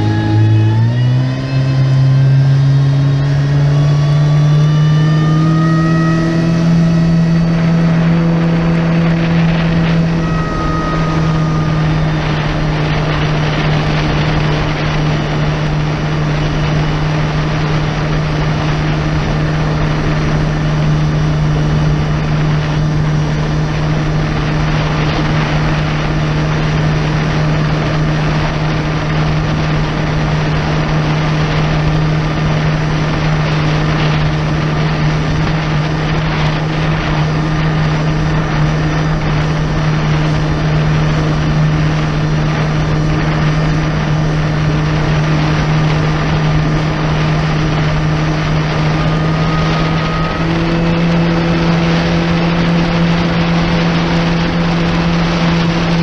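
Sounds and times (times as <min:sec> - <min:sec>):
jet ski engine running: 0:00.0 - 0:56.0
wind and water spray rushing: 0:00.0 - 0:56.0.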